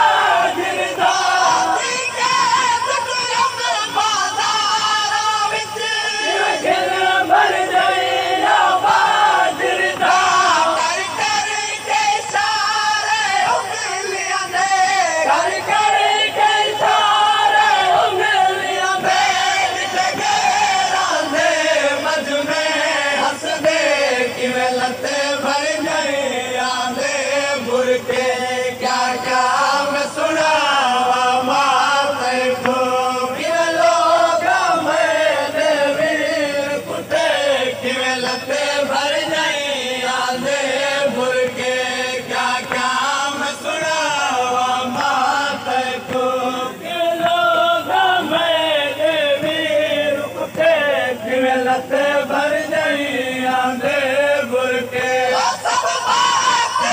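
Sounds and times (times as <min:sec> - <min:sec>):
crowd of men chanting: 0:00.0 - 0:56.9
man singing over loudspeakers: 0:00.0 - 0:56.9.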